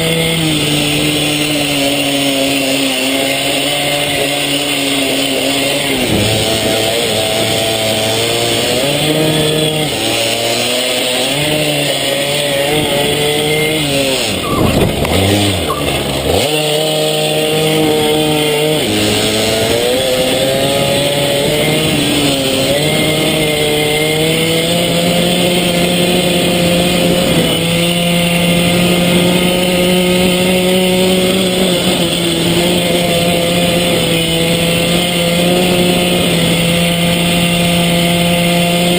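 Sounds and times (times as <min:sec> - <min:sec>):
pit bike engine revving: 0:00.0 - 0:38.9.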